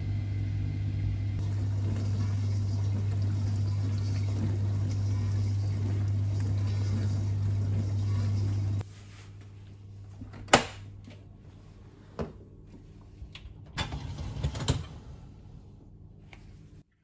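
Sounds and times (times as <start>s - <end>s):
dishwasher humming: 0.0s - 8.8s, 9.6s - 16.8s.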